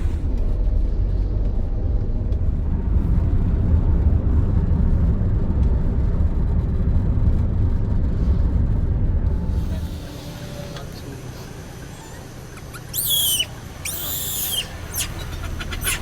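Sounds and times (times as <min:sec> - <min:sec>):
car driving low rumble: 0:00.0 - 0:16.0.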